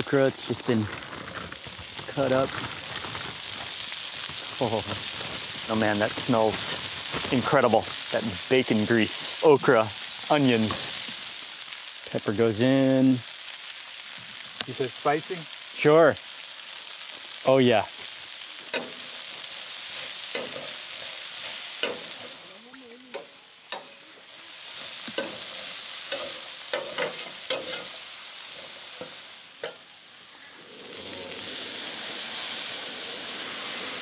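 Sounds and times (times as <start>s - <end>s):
vegetables sizzling in grease: 0.0s - 34.0s.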